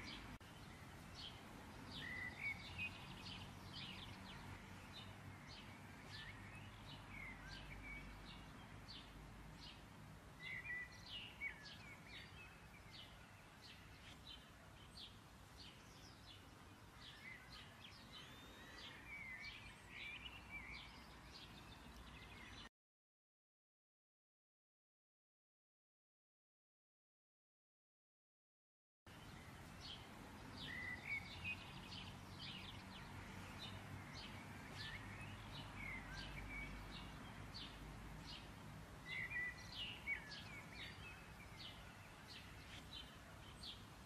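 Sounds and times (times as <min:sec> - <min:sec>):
birds chirping: 0:00.0 - 0:22.7, 0:29.1 - 0:44.0
low background hiss: 0:00.0 - 0:22.7, 0:29.1 - 0:44.0.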